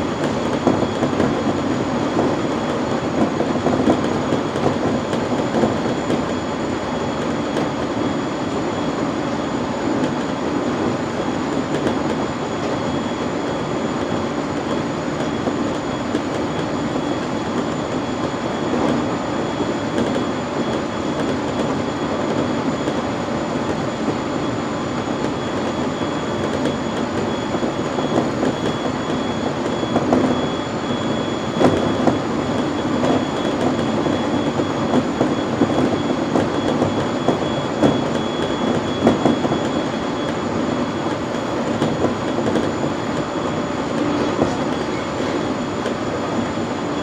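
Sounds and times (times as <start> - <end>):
faint high motor whine: 0.0 - 47.0
train wheels rumbling on rail: 0.0 - 47.0.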